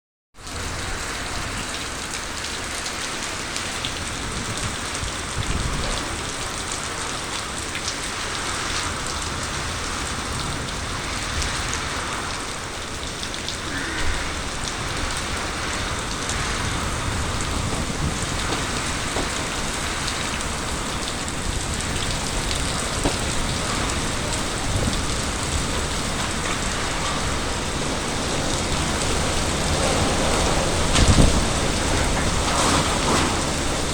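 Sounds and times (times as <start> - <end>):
heavy rain pouring: 0.4 - 33.9.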